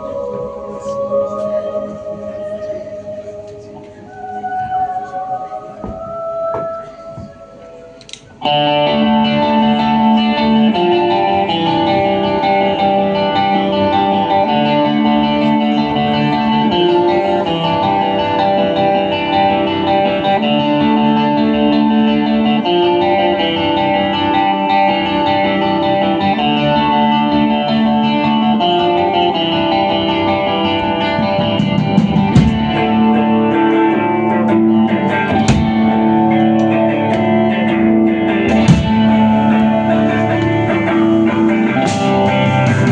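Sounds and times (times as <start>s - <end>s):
guitar ringing chords: 0.0s - 42.9s
live rock band playing: 8.0s - 42.9s.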